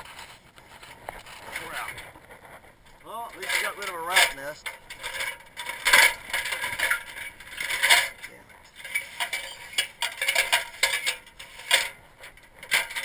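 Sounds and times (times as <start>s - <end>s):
metal ladder clanking and rattling: 0.0s - 13.0s.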